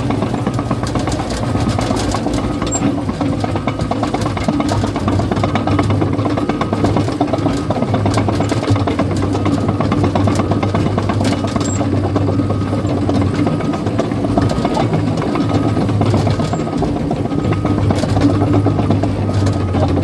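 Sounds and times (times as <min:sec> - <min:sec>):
bulldozer diesel engine running: 0:00.0 - 0:20.0
dense rapid clatter: 0:00.0 - 0:20.0.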